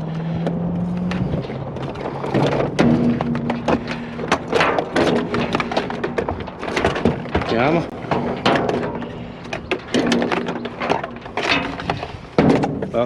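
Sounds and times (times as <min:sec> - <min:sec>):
hard objects knocking and clunking: 0:00.0 - 0:13.0.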